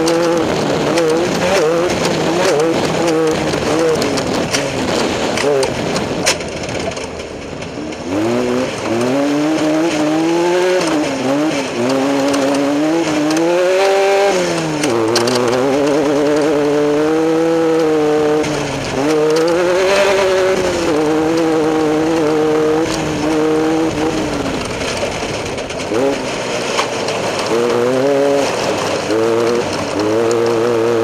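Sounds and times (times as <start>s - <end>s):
race vehicle engine revving: 0.0s - 31.0s.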